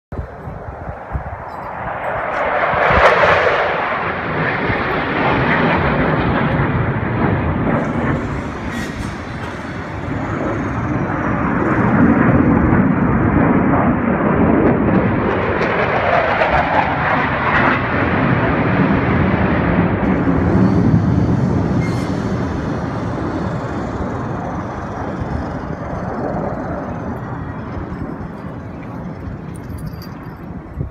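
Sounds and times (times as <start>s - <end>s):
jet aircraft flying past: 0.5s - 30.9s.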